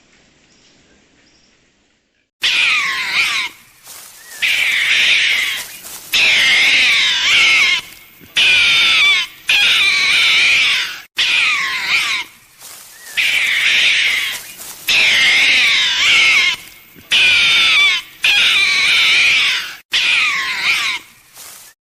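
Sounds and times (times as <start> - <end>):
animal high-pitched wavering calls: 2.4 - 21.6.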